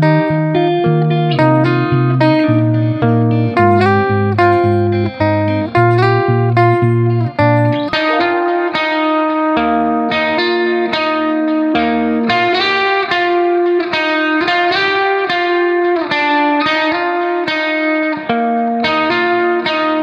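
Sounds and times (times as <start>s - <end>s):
guitar melody: 0.0s - 20.0s.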